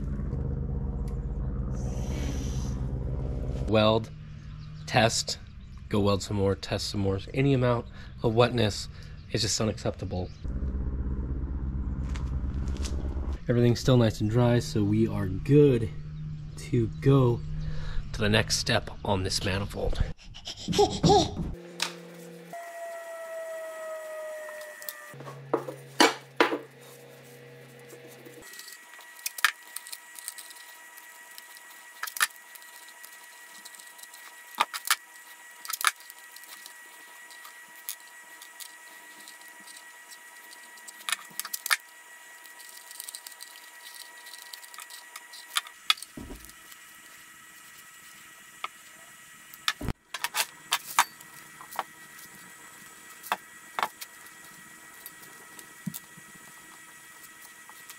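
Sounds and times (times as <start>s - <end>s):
faint high hum: 0.0s - 57.9s.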